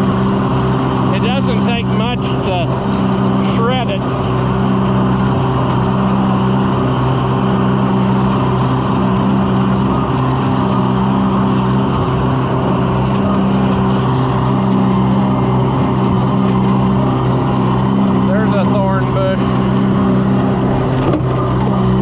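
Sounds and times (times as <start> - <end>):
shredder cutting growth: 0.0 - 22.0
tractor engine running: 0.0 - 22.0.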